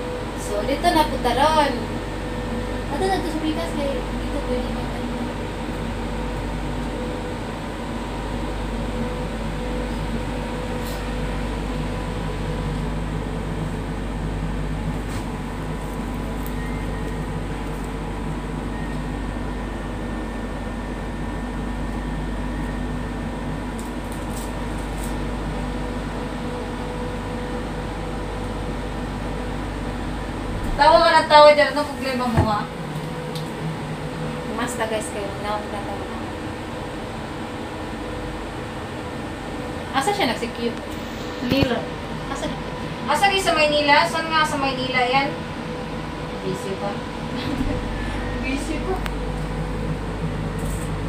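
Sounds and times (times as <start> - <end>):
mechanical hum: 0.0 - 51.0.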